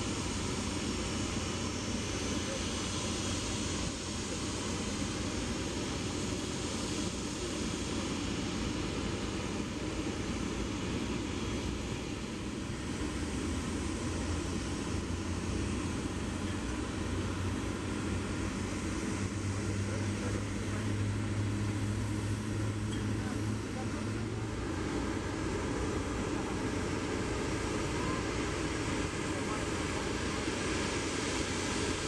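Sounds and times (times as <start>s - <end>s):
jet engines idling: 0.0s - 32.0s.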